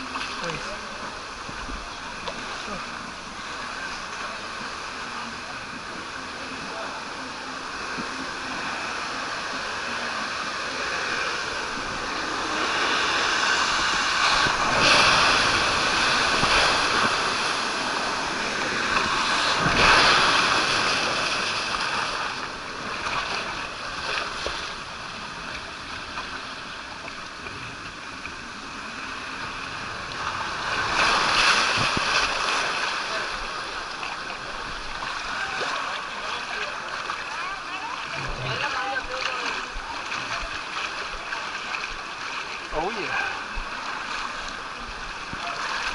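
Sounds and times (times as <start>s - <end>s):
water rushing and splashing: 0.0s - 45.9s.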